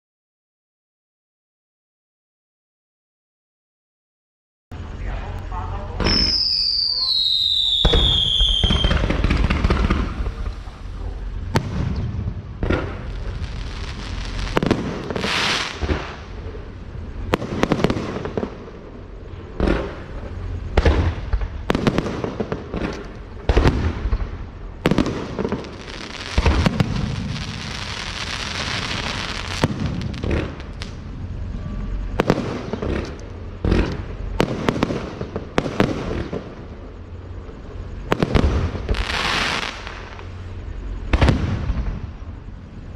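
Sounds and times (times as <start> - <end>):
fireworks crackling hiss: 4.8 - 42.9
fireworks bangs: 5.9 - 42.6.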